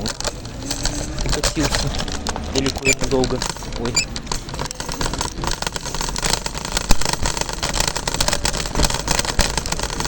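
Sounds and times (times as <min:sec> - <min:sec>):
rattling and clicking: 0:00.0 - 0:10.0
scooter wheels rumbling on pavement: 0:00.0 - 0:10.0.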